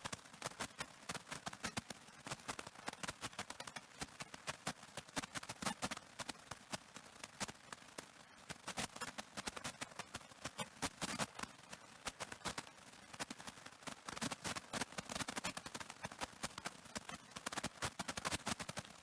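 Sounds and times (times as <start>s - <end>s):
faint tape hiss: 0.0s - 19.0s.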